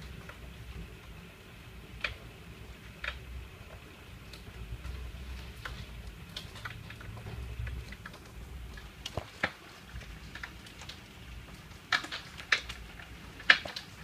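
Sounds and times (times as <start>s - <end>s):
hailstones ticking on window: 0.0s - 14.0s
low steady rumble: 0.0s - 14.0s.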